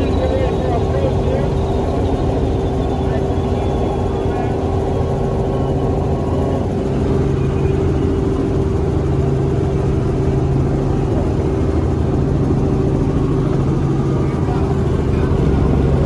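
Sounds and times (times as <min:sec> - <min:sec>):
helicopter engine and rotor drone: 0:00.0 - 0:16.0.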